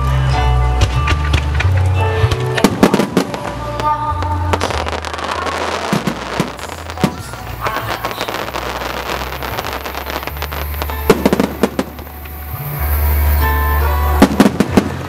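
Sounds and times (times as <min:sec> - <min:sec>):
music: 0:00.0 - 0:15.0
firework shells bursting: 0:01.1 - 0:15.0.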